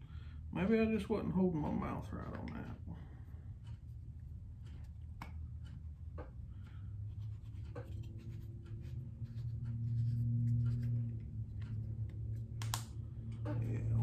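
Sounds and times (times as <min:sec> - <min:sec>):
low hum: 0:01.2 - 0:14.0.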